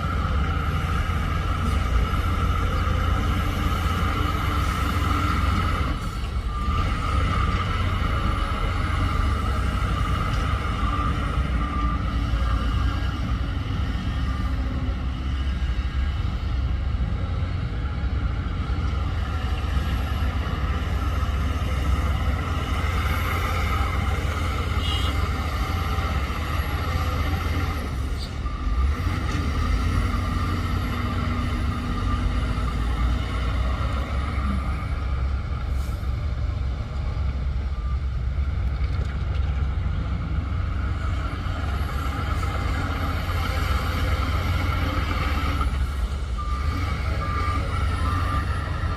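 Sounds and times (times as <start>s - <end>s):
diesel engine rumble: 0.0s - 48.9s.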